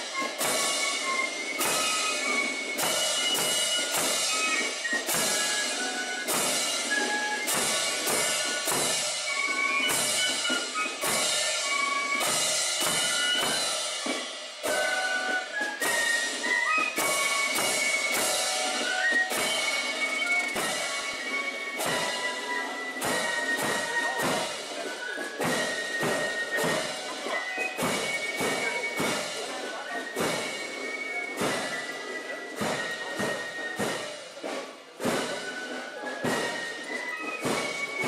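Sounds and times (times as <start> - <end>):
cymbals: 0.0 - 38.0
flutes playing a march tune: 0.0 - 38.0.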